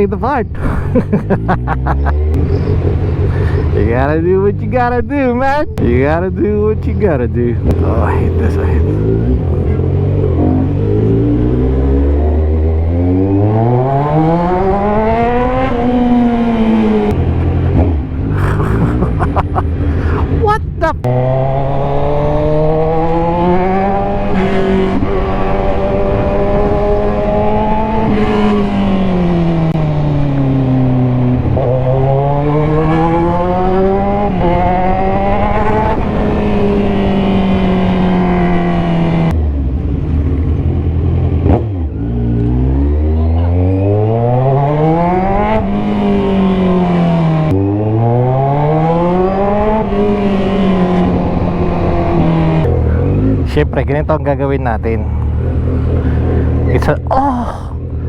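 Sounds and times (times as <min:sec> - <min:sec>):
motorcycle engine revving: 0:05.8 - 0:53.6.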